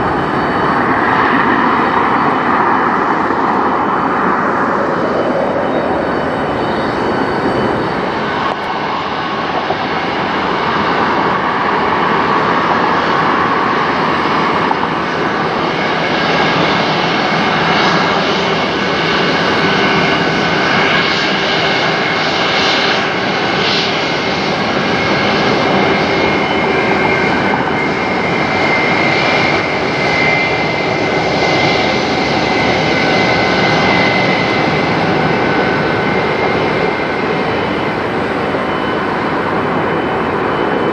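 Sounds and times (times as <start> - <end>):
jet engines whining at high power: 0.0 - 40.9.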